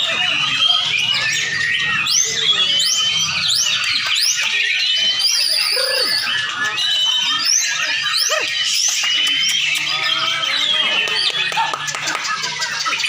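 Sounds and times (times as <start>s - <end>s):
birds singing whistles: 0.0s - 13.0s
high warbling bird trill: 0.0s - 13.0s.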